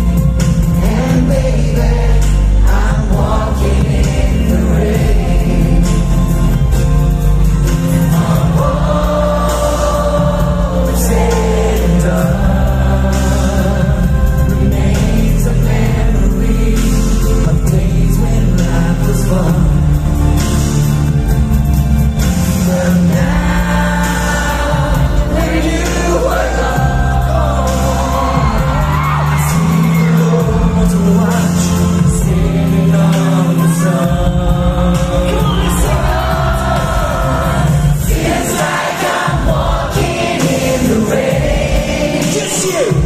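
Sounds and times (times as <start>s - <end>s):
heavy bass: 0.0s - 43.0s
live pop ballad: 0.0s - 43.0s
male lead vocals and harmonies: 0.0s - 43.0s.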